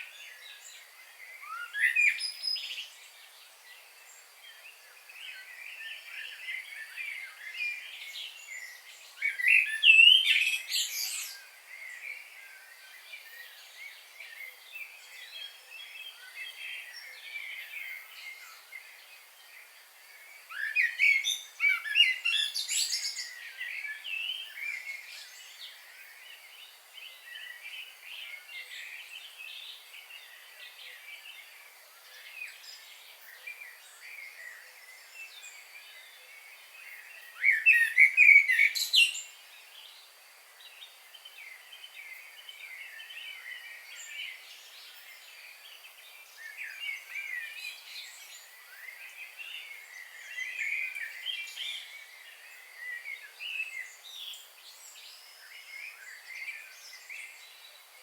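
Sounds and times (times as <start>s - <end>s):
wild birds chirping and singing: 0.0s - 58.0s.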